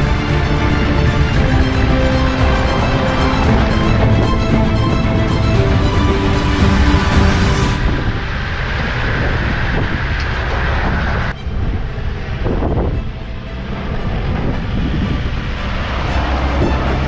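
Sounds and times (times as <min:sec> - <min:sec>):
vehicles driving on dirt track: 0:00.0 - 0:17.0.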